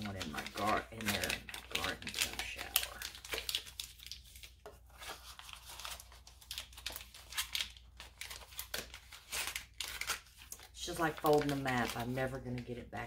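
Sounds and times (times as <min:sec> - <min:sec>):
paper wrapping crinkling: 0:00.0 - 0:12.7.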